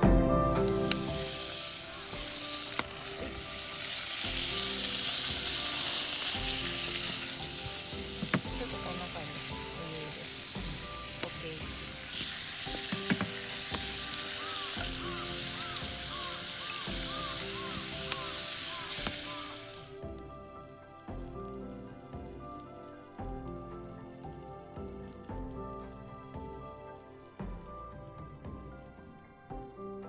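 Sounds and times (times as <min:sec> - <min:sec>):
background music: 0:00.0 - 0:30.0
food sizzling in a pan: 0:00.4 - 0:30.0.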